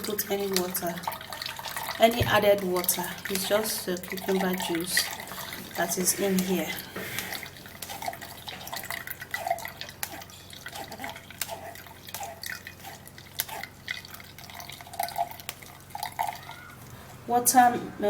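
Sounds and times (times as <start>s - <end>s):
juice dripping into a cup: 0.0s - 17.3s.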